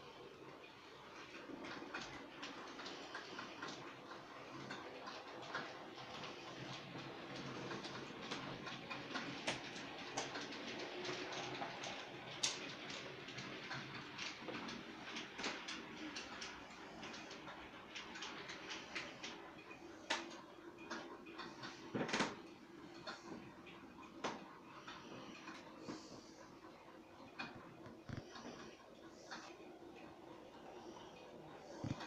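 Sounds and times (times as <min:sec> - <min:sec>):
model train wheels clicking: 0:00.2 - 0:32.0.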